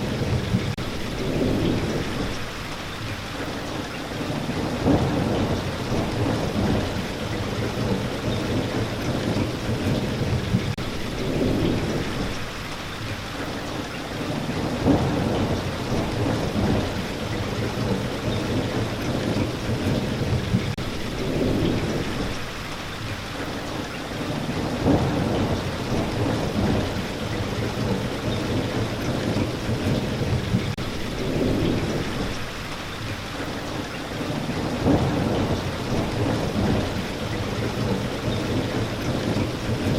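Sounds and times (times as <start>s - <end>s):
low rolling thunder: 0.0s - 2.7s, 4.1s - 12.7s, 14.2s - 22.8s, 24.2s - 33.1s, 34.2s - 39.9s
steady rain falling: 0.0s - 39.9s.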